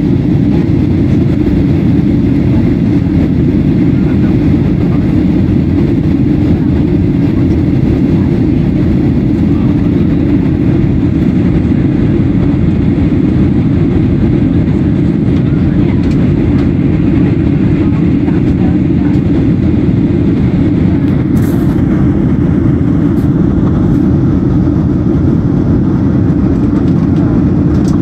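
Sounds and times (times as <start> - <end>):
jet engine roar in cabin: 0.0 - 28.0.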